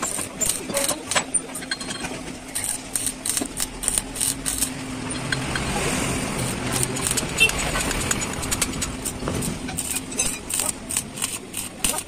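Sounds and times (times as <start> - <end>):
sharp metallic ticks and clicks: 0.0 - 12.0.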